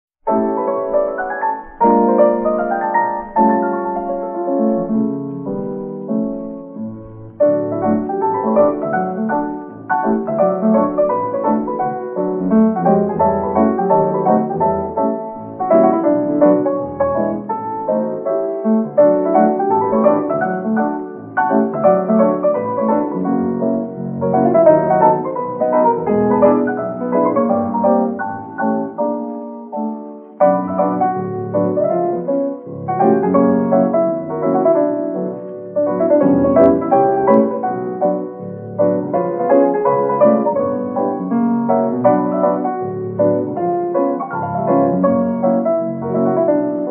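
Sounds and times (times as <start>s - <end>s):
piano playing ringing chords: 0.3s - 46.9s.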